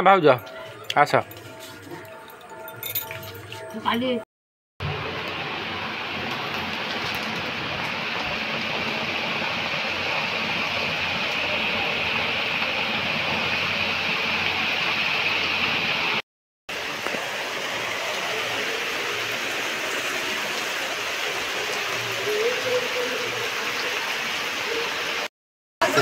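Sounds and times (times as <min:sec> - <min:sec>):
rain falling on trees and ground: 0:04.8 - 0:26.0.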